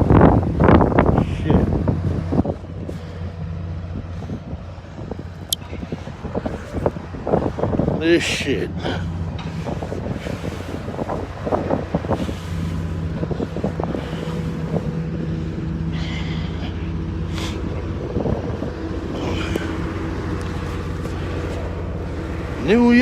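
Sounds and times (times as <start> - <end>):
vehicle engine running: 0.0 - 23.0
wind buffeting microphone: 0.0 - 23.0.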